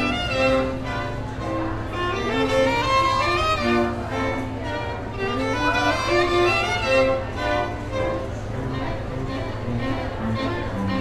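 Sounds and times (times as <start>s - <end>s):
classical string music: 0.0s - 11.0s
violin melody: 0.0s - 11.0s.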